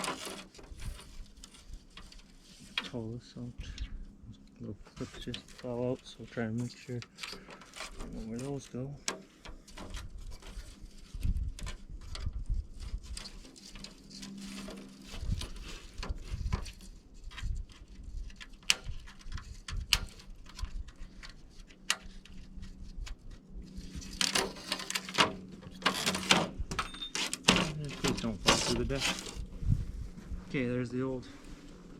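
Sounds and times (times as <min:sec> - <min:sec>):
scraping rustle: 0:00.0 - 0:31.9.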